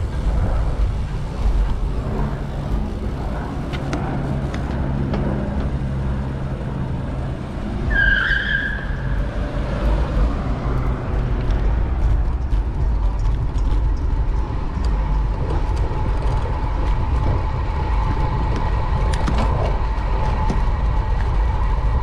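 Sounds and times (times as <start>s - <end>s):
car engines and road noise: 0.0s - 22.0s
engine hum: 0.0s - 22.0s.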